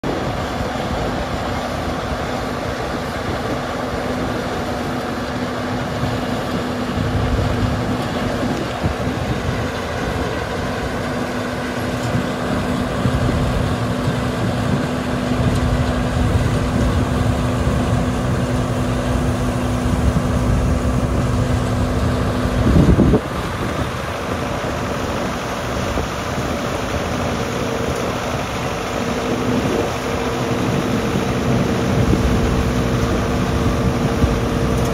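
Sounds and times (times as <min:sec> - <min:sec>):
harvester machine running: 0:00.0 - 0:34.9.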